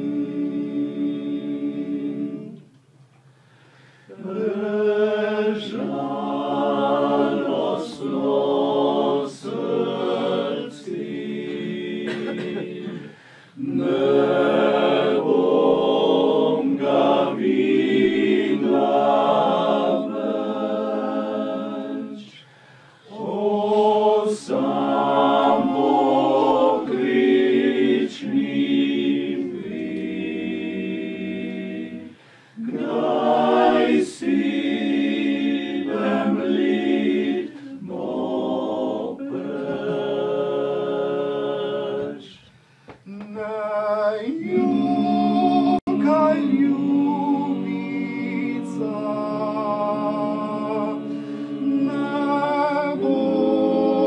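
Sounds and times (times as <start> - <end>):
male vocal group singing a cappella: 0.0 - 2.7, 4.1 - 54.0.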